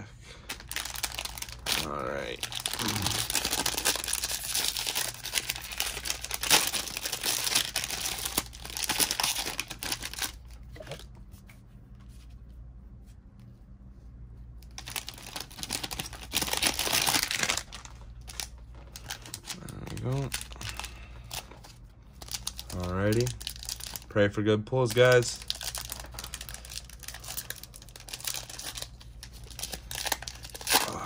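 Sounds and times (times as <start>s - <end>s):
wrapper being torn and crinkled: 0.4s - 11.1s, 14.6s - 24.2s, 24.8s - 31.0s.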